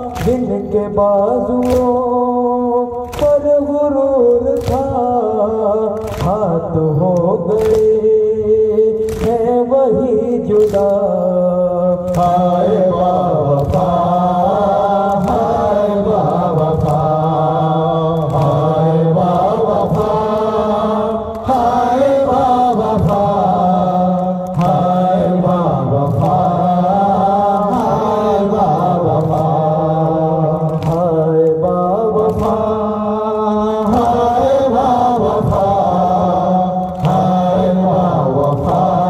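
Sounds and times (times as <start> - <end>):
men chanting in unison: 0.0 - 39.0.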